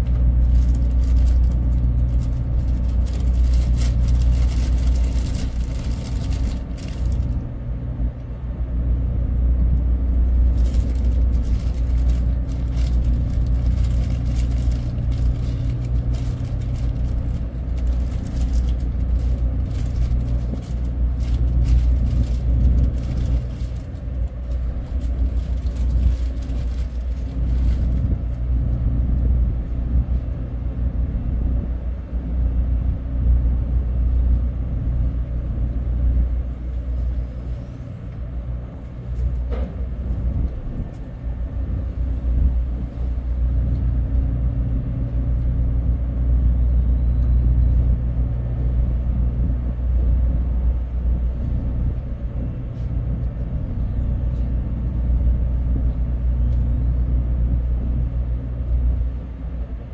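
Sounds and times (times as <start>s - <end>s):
ship machinery drone: 0.0s - 59.9s.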